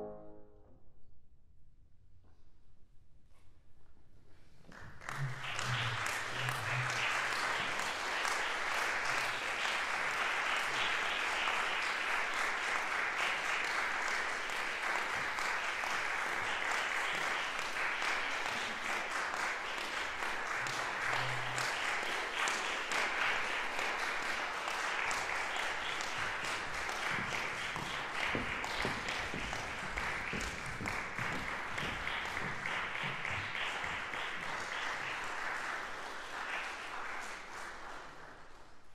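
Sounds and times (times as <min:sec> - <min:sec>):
audience applauding: 0:04.7 - 0:38.9.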